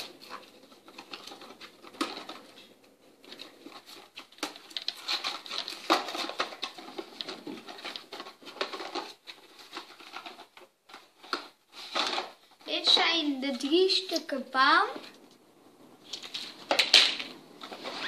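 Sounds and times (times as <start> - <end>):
rustling and scraping: 0.0 - 18.0.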